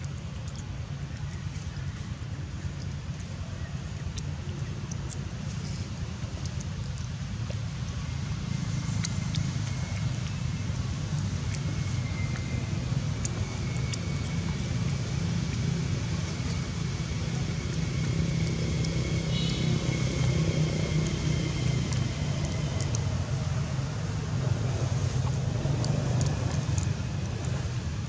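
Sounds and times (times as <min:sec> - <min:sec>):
small ticks: 0:00.0 - 0:28.0
vehicle engine rumbling: 0:00.0 - 0:28.0.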